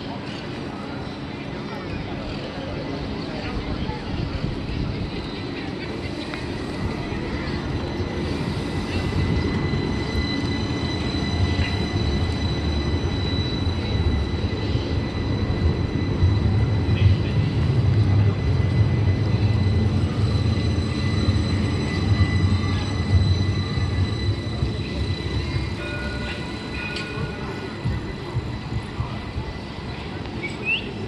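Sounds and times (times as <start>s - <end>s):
tram wheels rumbling on rail: 0.0s - 31.0s.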